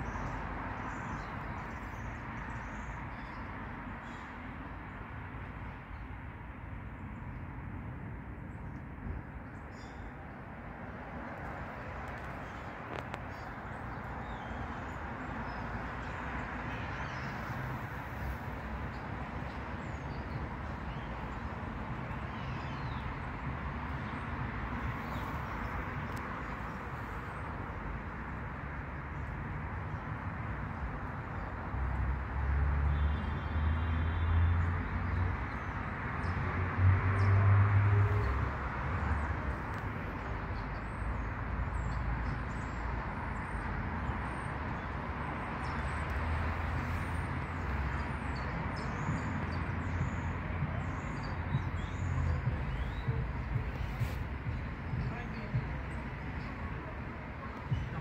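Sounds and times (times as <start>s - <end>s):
distant traffic hum: 0.0s - 58.0s.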